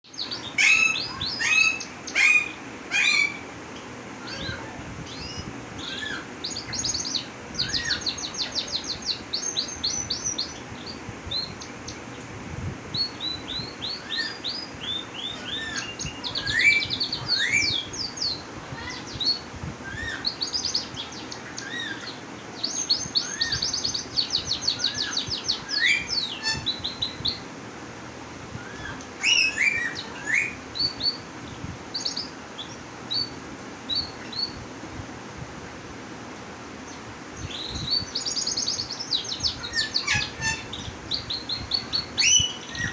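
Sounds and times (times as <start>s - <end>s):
songbird singing: 0.0s - 12.3s, 12.9s - 27.6s, 28.5s - 34.8s, 36.8s - 42.9s.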